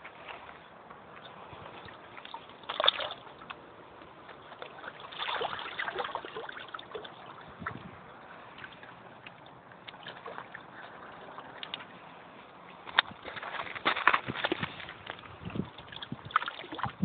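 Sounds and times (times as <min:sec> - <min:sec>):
water sloshing and trickling: 0:00.0 - 0:17.0
small water splashes: 0:01.2 - 0:17.0.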